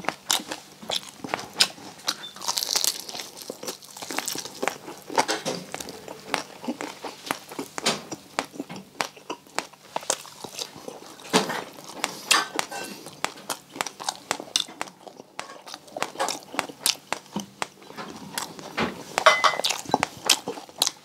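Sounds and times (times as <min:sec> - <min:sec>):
crispy pork skin crunching: 0:00.0 - 0:21.0.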